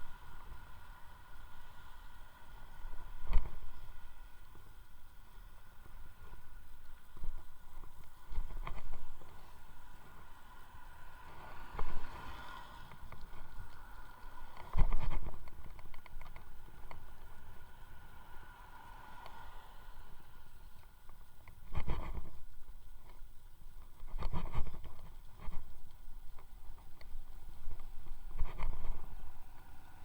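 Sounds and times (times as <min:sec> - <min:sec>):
faint steady motor whine: 0:00.0 - 0:30.0.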